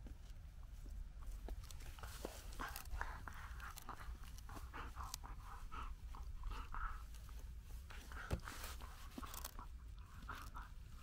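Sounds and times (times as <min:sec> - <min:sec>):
dog gnawing wooden stick: 0:00.0 - 0:11.0.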